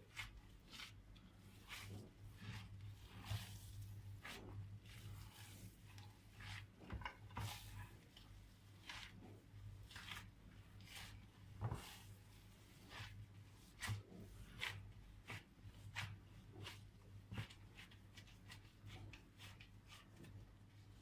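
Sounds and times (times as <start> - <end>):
wet squishes of minced meat: 0.0 - 21.0.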